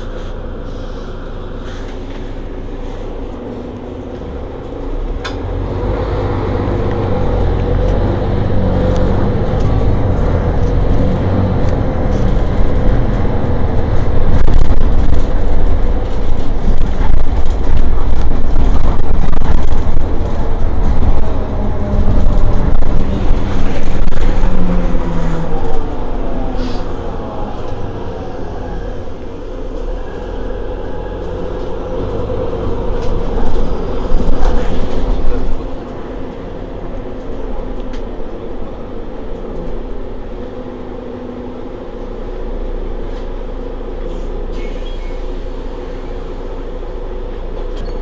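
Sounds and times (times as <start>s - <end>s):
bus diesel engine idling: 0.0s - 48.0s.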